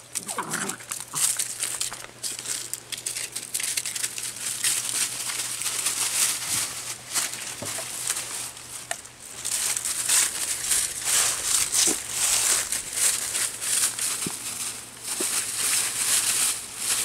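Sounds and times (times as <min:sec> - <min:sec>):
dry leaves crunching underfoot: 0:00.0 - 0:17.0.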